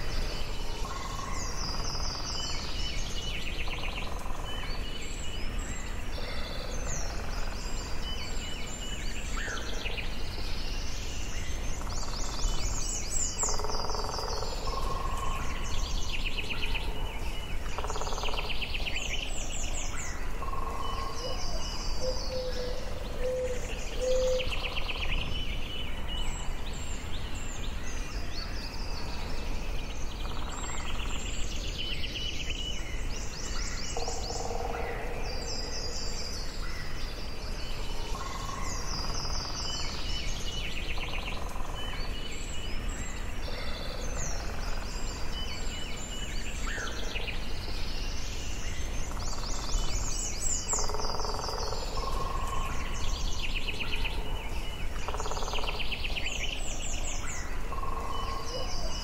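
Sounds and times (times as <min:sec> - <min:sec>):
birds singing trilled notes: 0:00.0 - 0:59.0
low background noise: 0:00.0 - 0:59.0.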